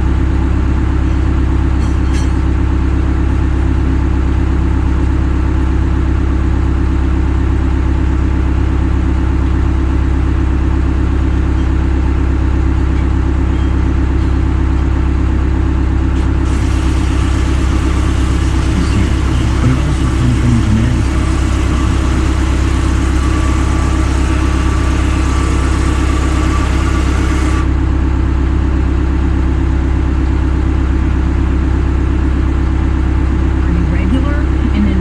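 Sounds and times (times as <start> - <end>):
large engine idling: 0.0 - 35.0.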